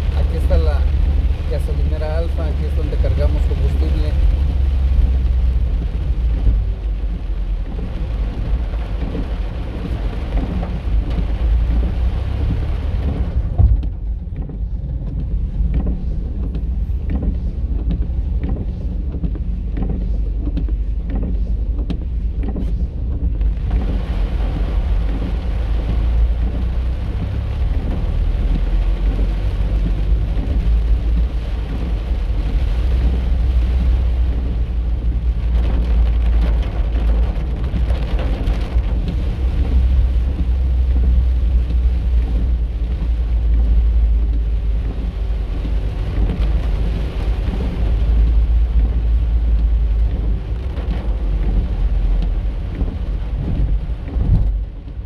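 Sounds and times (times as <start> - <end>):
car and wet road rumble: 0.0 - 55.0
heavy rain on a car: 0.0 - 55.0.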